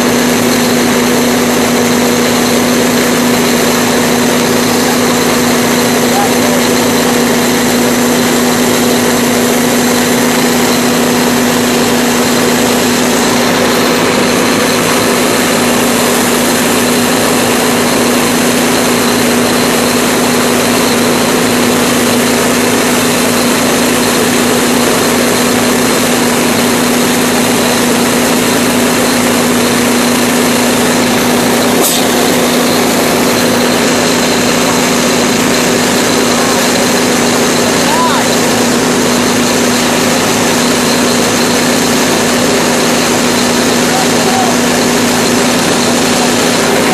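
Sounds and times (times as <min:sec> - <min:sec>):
fire engine pump droning: 0:00.0 - 0:46.9.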